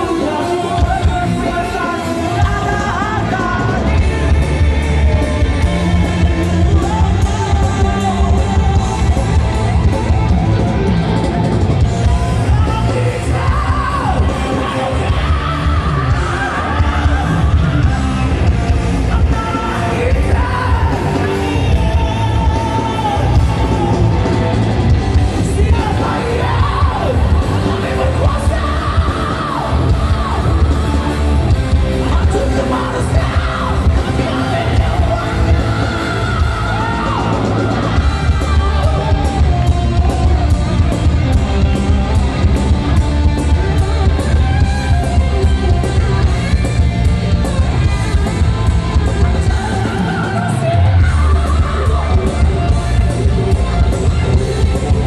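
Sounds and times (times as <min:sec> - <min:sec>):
crowd yelling and singing: 0:00.0 - 0:55.0
driving drum beat: 0:00.0 - 0:55.0
live rock band: 0:00.0 - 0:55.0.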